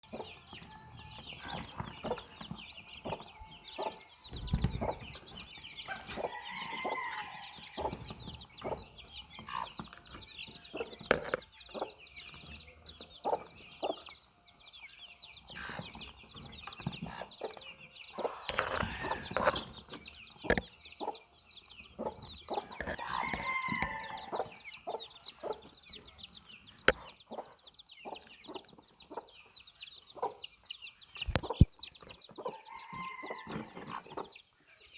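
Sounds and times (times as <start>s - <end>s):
hen clucking: 0.0s - 14.2s, 15.4s - 30.6s
chicks peeping: 0.0s - 34.9s.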